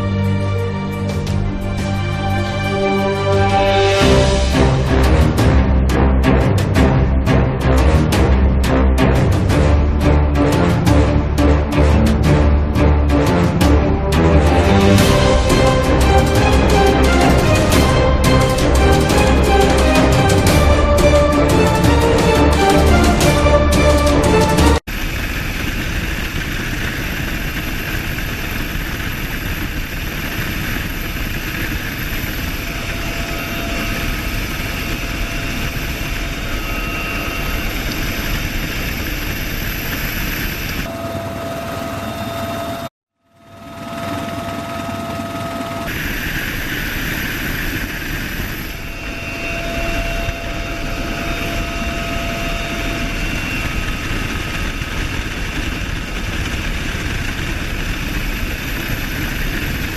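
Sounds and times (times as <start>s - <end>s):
helicopter rotor roar: 0.0s - 59.9s
high turbine whine: 0.0s - 59.9s.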